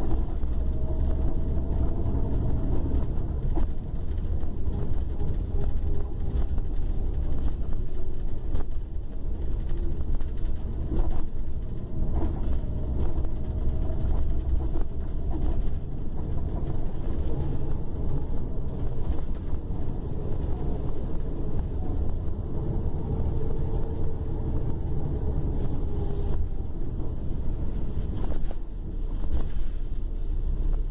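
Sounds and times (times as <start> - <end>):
diesel engine rumbling: 0.0 - 30.9.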